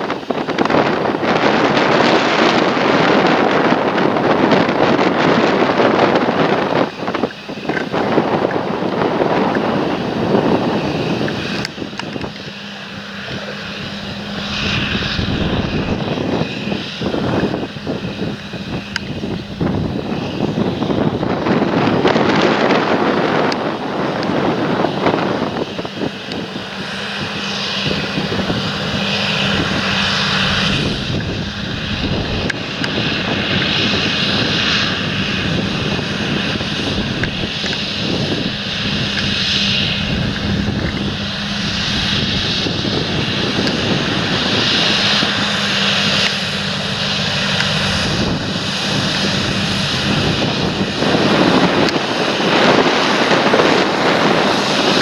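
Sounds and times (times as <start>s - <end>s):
high whine: 0.0s - 55.0s
tractor engine drone: 0.0s - 55.0s
wind buffeting microphone: 0.0s - 55.0s.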